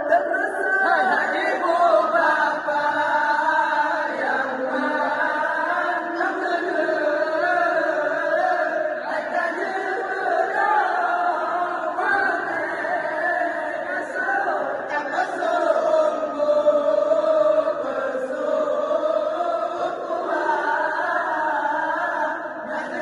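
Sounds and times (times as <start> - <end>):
group of voices chanting: 0.0 - 23.0.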